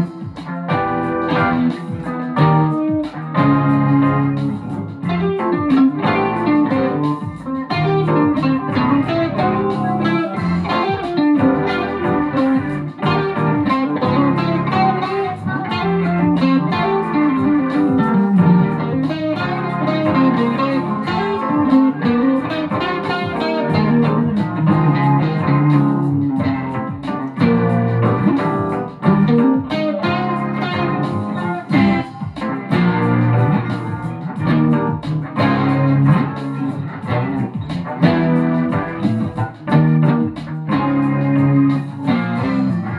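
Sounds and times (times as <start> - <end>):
plucked guitar music: 0.0 - 42.9.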